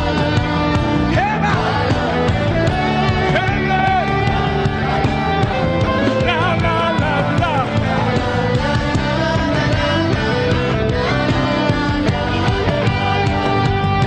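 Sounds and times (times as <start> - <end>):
full-band song: 0.0 - 14.0.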